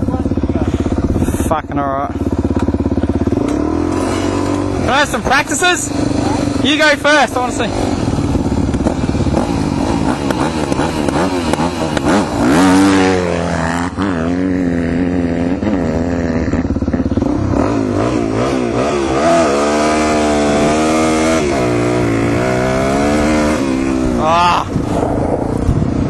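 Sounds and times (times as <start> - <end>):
dirt bike engine revving: 0.0 - 26.0
motorcycle accelerating through gears: 0.0 - 26.0.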